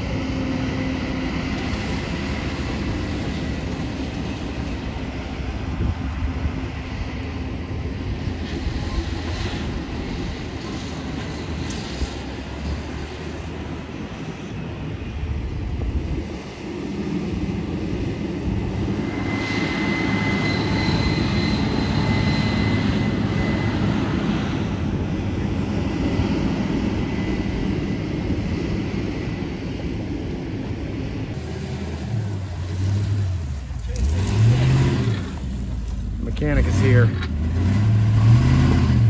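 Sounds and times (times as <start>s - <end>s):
engine running: 0.0s - 29.4s, 30.7s - 39.0s.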